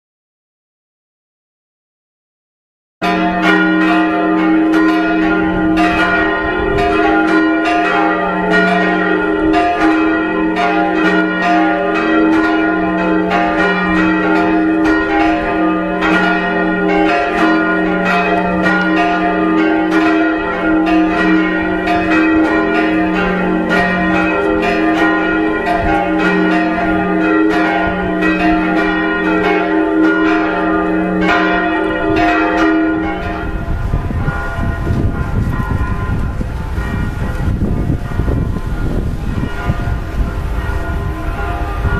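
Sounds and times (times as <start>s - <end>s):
church bells ringing: 3.0s - 41.9s.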